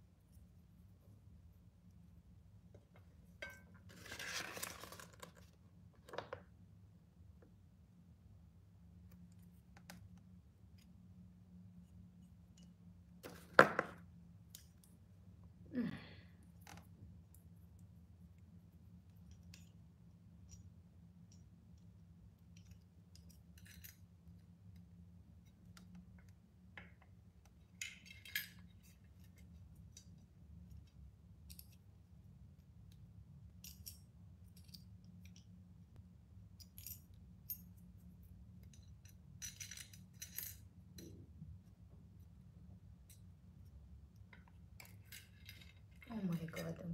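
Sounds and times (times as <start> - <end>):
low room hum: 0.0 - 46.9.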